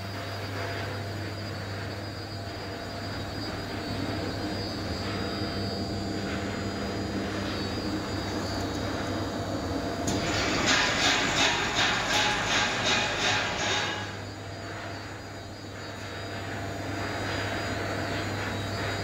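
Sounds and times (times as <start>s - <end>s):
machinery drone of motors and fans: 0.0s - 19.0s.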